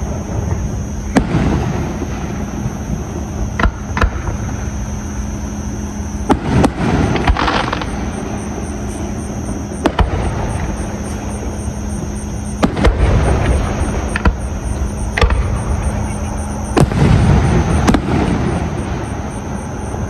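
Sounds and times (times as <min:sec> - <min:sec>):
fireworks bangs: 0:00.0 - 0:04.8, 0:05.7 - 0:19.6
fireworks crackling: 0:00.0 - 0:19.3.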